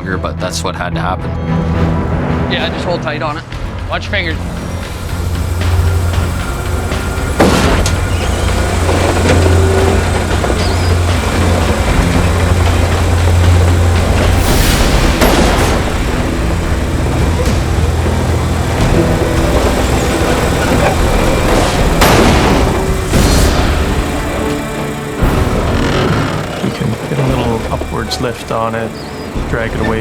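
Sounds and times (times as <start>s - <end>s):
diesel truck engine running: 1.1s - 30.0s.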